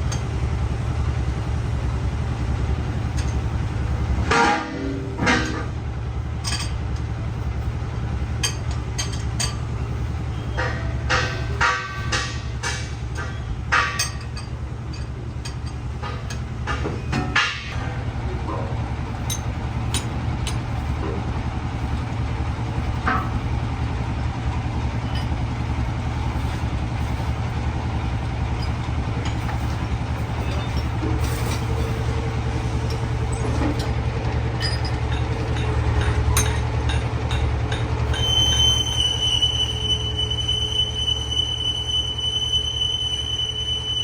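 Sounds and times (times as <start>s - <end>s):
steady machine whine: 0.0s - 44.0s.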